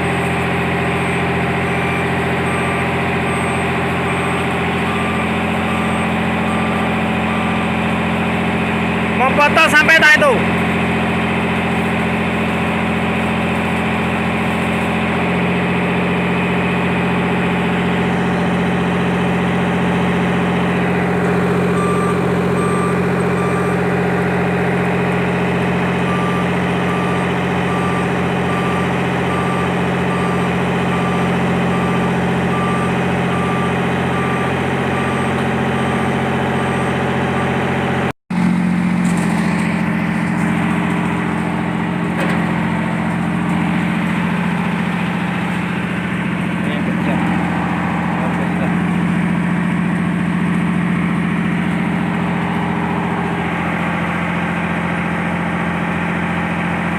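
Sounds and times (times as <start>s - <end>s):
warning alarm beeping: 0.0s - 38.1s, 40.2s - 54.6s
diesel engine idling: 0.0s - 56.9s.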